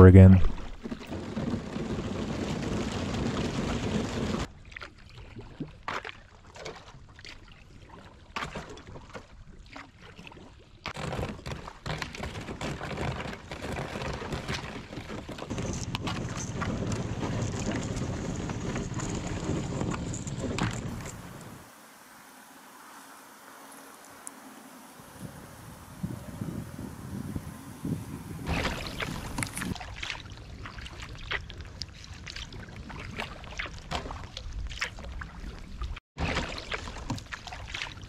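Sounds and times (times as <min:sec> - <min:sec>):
paddle strokes in water: 0:00.6 - 0:38.0.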